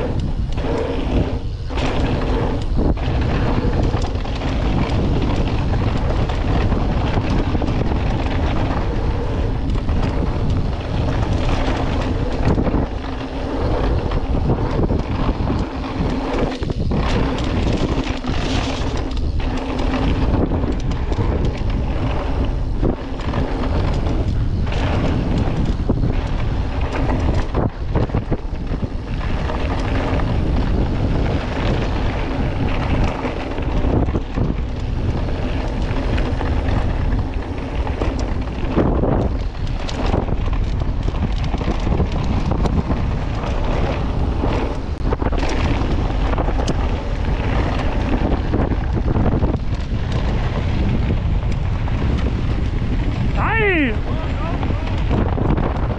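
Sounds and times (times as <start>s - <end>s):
bike rattling over rough trail: 0.0s - 55.9s
wind on microphone: 0.0s - 55.9s.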